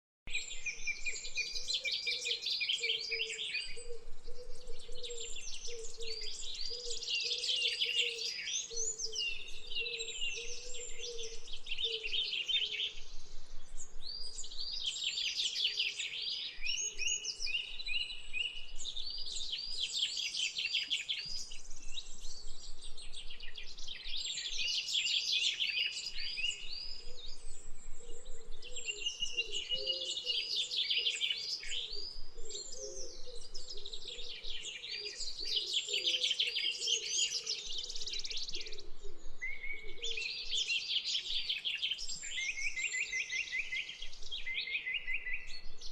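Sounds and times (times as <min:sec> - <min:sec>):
birds singing and chirping: 0:00.3 - 0:45.9
low repeated bird call: 0:00.3 - 0:45.9.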